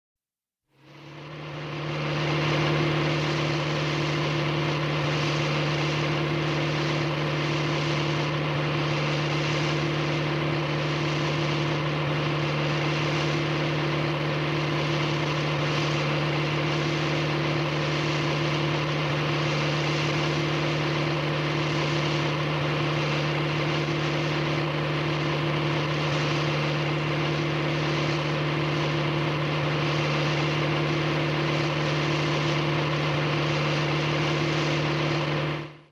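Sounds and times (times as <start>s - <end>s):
car driving hum: 0.8s - 35.8s.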